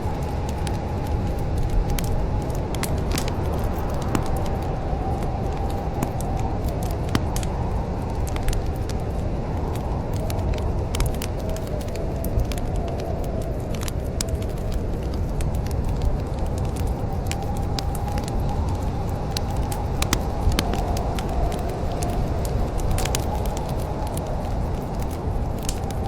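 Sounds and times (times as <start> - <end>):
low roar of flames: 0.0 - 26.0
wood fire crackling and popping: 0.0 - 26.0.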